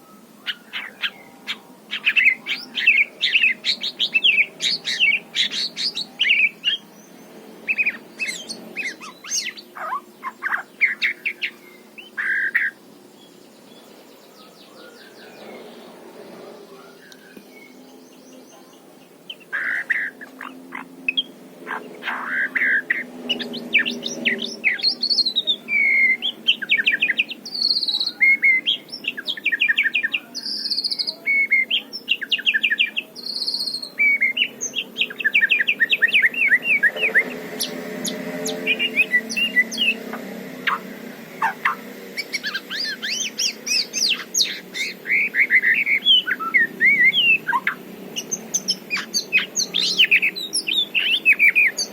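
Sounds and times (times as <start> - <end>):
songbird singing whistles: 0.0 - 6.8, 7.6 - 12.8, 19.5 - 40.0, 41.4 - 51.9.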